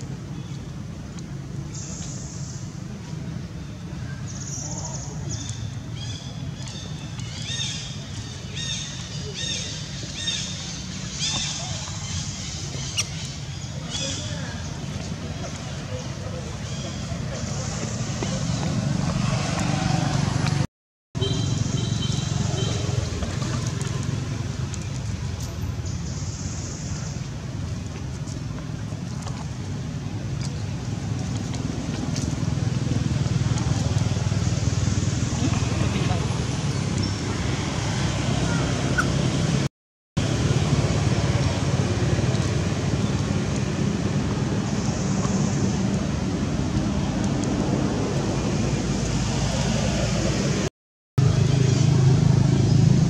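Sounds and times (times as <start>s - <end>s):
low outdoor rumble: 0.0s - 20.7s, 21.4s - 53.0s.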